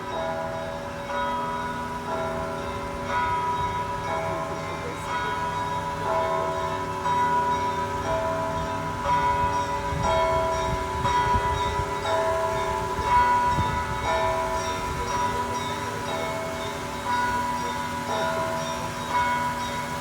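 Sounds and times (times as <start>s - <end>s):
bells ringing: 0.0s - 20.0s.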